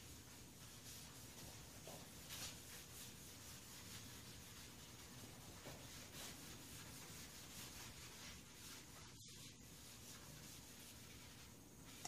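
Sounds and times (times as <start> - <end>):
gloved hand rubbing wood: 0.0 - 12.0
low hiss: 0.0 - 12.0.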